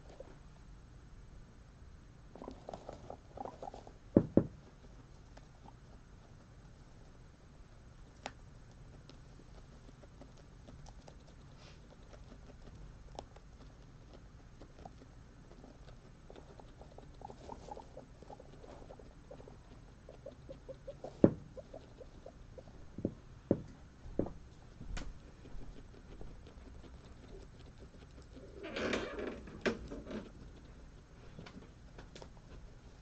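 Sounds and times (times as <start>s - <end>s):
guinea pigs nibbling: 0.0s - 33.0s.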